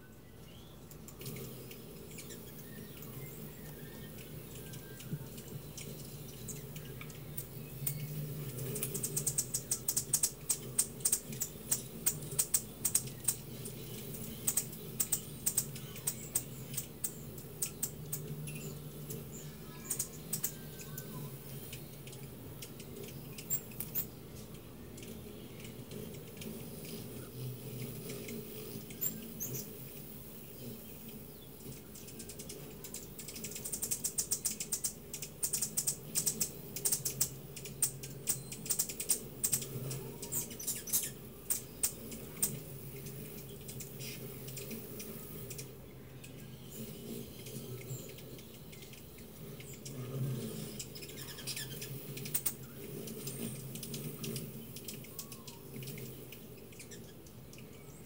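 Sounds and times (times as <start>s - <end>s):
hummingbirds chipping and twittering: 0.0s - 58.0s
steady low hum: 0.0s - 58.0s.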